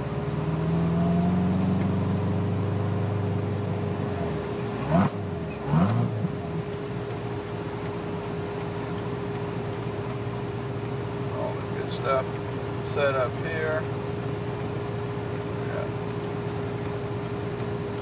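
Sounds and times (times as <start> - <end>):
car engine pulling away: 0.0 - 18.0.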